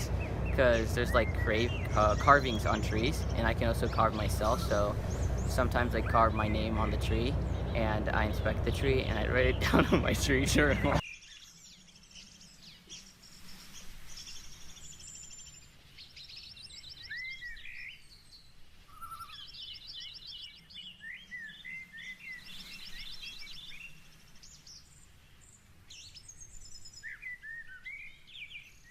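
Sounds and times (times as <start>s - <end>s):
songbirds singing: 0.0s - 28.9s.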